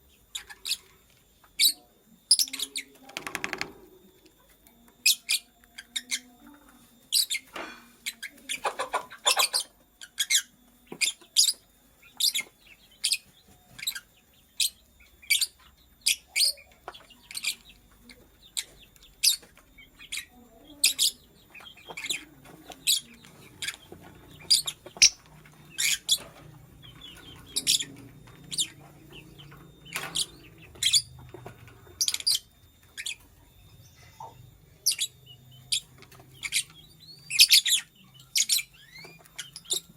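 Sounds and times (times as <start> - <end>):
lovebird high-pitched chirps: 1.6 - 3.0, 5.0 - 6.5, 7.1 - 39.9.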